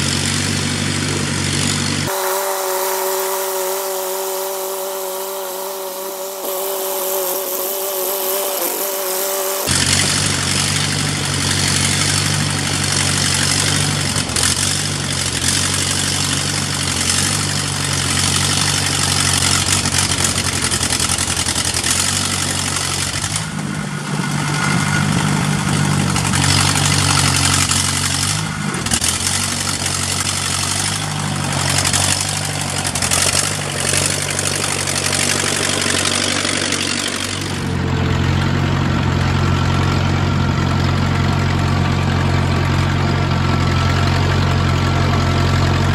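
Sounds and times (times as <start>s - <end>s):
broad mechanical noise: 0.0s - 45.9s
grader engine running: 0.0s - 45.9s.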